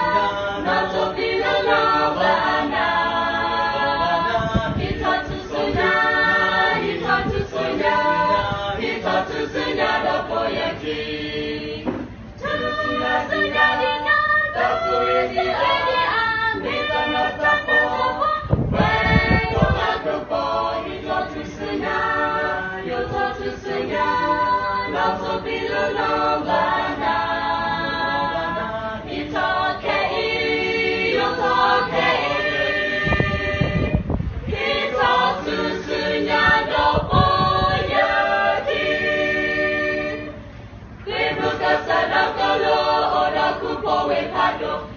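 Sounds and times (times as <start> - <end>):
group singing unaccompanied: 0.0 - 44.9.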